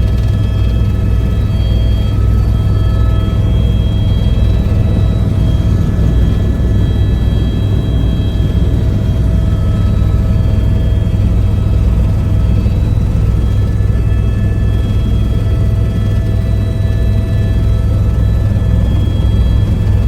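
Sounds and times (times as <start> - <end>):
faint high whine: 0.0 - 20.0
helicopter rotor and engine rumble: 0.0 - 20.0.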